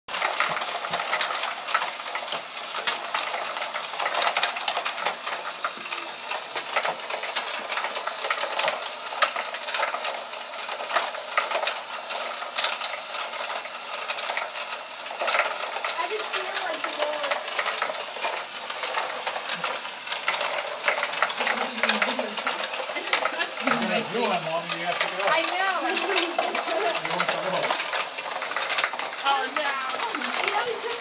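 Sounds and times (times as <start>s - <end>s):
plastic game pieces rattling: 0.1s - 31.0s.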